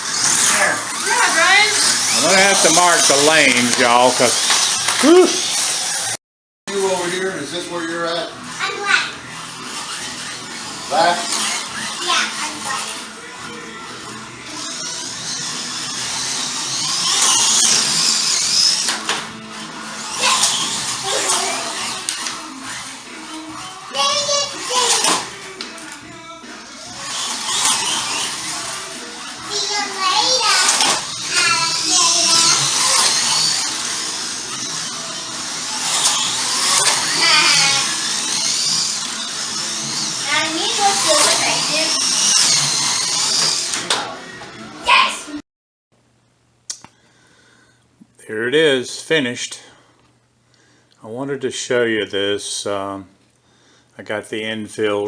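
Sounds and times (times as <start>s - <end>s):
slot car motors whining: 0.0s - 45.4s.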